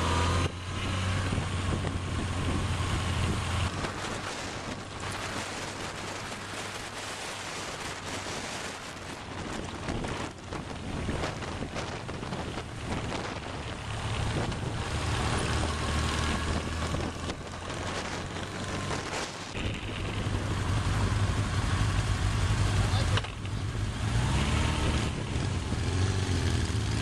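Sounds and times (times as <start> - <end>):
motorcycle engines droning: 0.0 - 27.0
wind rushing over microphone: 0.0 - 27.0.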